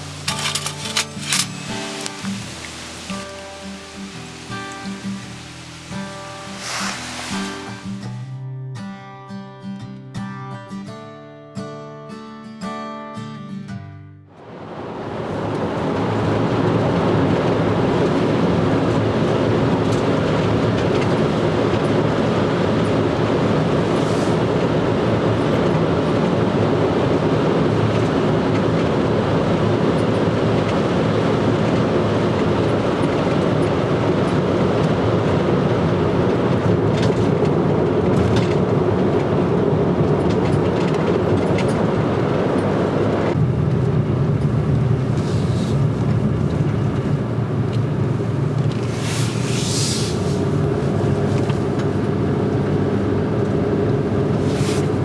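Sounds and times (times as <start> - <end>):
moving vehicle road noise: 0.0 - 8.3, 14.4 - 55.0.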